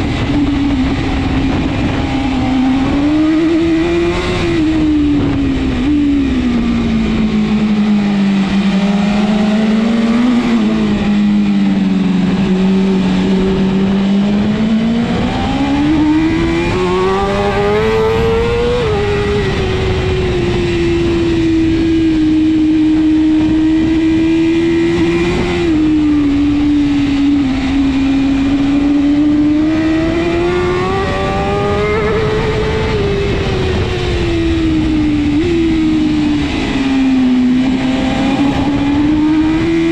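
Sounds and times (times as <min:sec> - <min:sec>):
motorcycle engine at race pace: 0:00.0 - 0:39.9.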